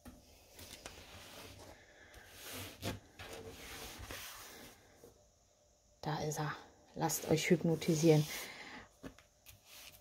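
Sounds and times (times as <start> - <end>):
handling noise rubbing and rustling: 0.0 - 5.2, 7.0 - 10.0.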